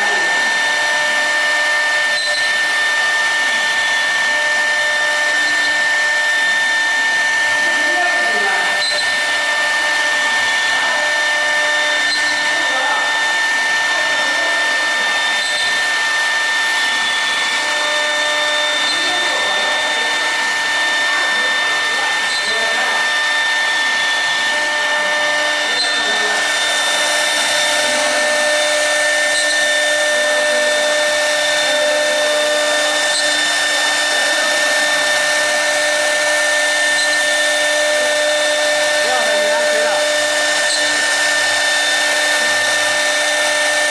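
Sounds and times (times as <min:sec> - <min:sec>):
router spindle whining: 0:00.0 - 0:43.9.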